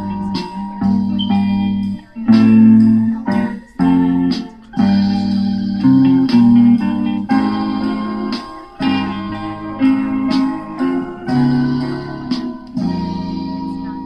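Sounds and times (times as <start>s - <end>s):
music with held chords: 0.0s - 14.0s.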